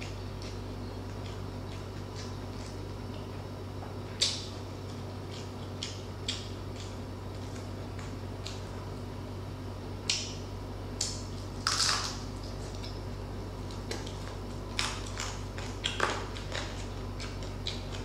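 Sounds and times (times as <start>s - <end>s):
crunching and chewing crispy food: 0.0s - 18.0s.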